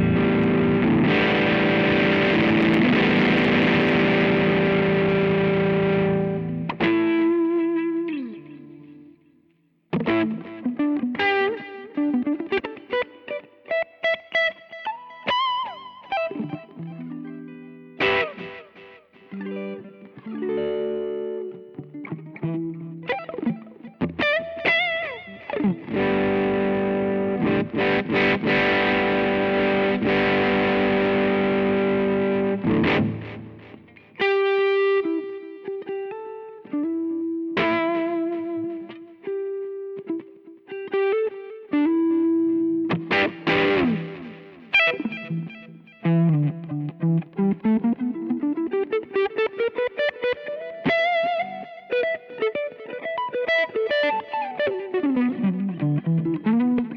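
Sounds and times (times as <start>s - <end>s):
distorted electric guitar: 0.0s - 9.1s, 9.9s - 56.9s.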